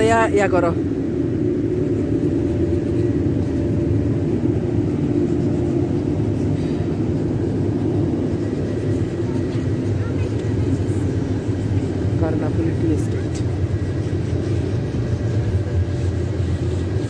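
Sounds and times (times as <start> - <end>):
faint machine hum: 0.0 - 17.0
machinery rumble: 0.0 - 17.0.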